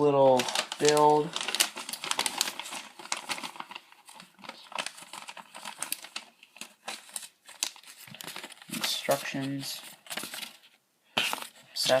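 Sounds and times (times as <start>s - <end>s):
plastic bag crinkling: 0.0s - 11.5s
paper rustling: 0.0s - 12.0s.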